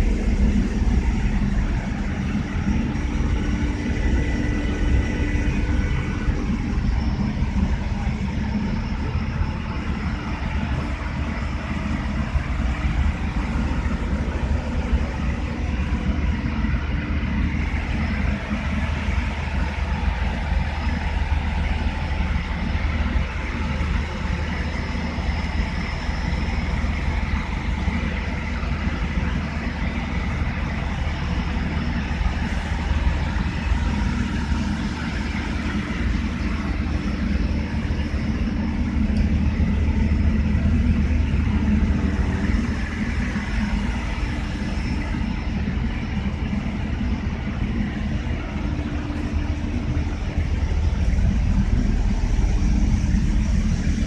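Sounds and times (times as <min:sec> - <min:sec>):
engine room machinery drone: 0:00.0 - 0:54.0.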